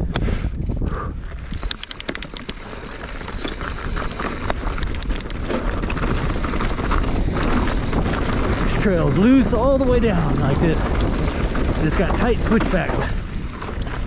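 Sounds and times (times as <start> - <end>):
wind rushing over microphone: 0.0 - 14.0
bike rattling clicks: 0.6 - 14.0
tyres crunching over dirt: 1.4 - 14.0.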